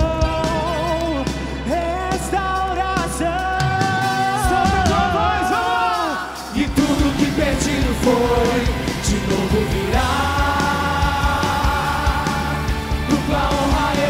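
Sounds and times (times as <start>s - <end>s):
drums: 0.0s - 14.0s
live band playing: 0.0s - 14.0s
person singing long notes: 0.0s - 14.0s.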